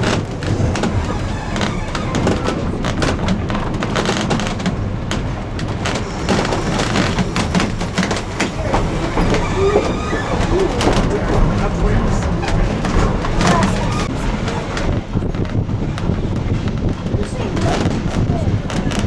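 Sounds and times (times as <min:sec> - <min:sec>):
railroad car rumbling: 0:00.0 - 0:19.0
wheels clicking and knocking: 0:00.0 - 0:19.0.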